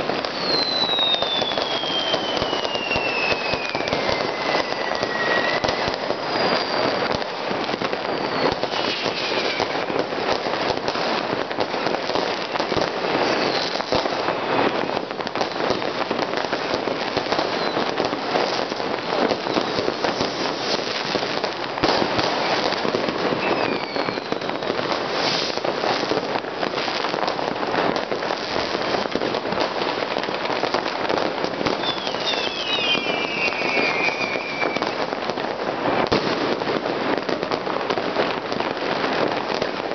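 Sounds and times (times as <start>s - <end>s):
falling firework whistles: 0.0s - 39.9s
fireworks crackling and banging: 0.0s - 39.9s.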